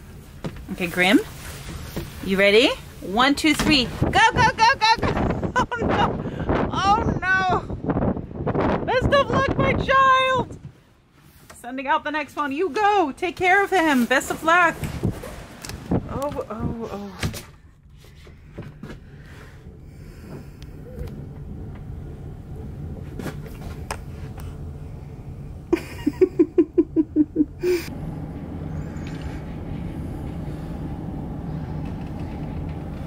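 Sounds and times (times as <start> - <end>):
storm wind rumbling: 0.7 - 10.9, 14.2 - 17.0, 17.8 - 33.0.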